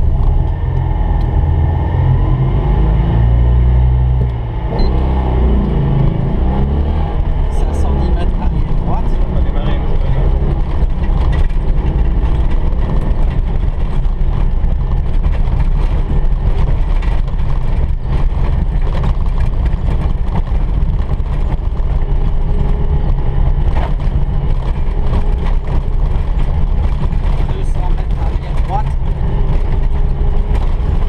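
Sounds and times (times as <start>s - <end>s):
car engine running at speed: 0.0s - 31.0s
road noise: 0.0s - 31.0s.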